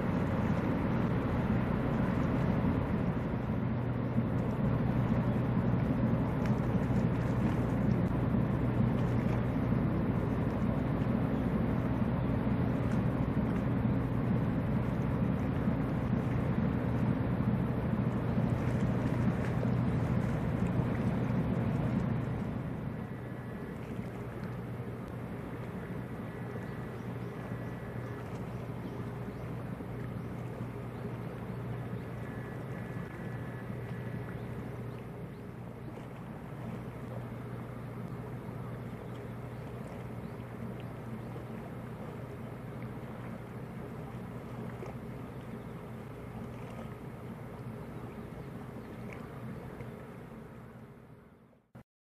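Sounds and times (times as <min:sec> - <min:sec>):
ship diesel engine drone: 0:00.0 - 0:51.6
water washing along hull: 0:00.0 - 0:51.7.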